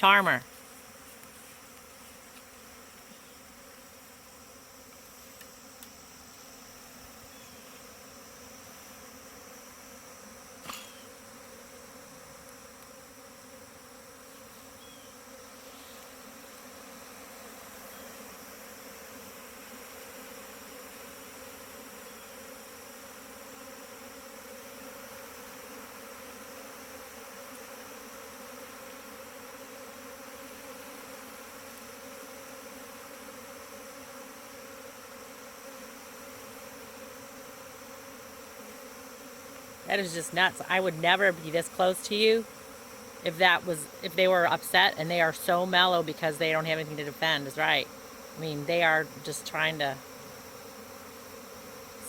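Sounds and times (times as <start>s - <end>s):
bee swarm buzzing: 0.0s - 52.0s.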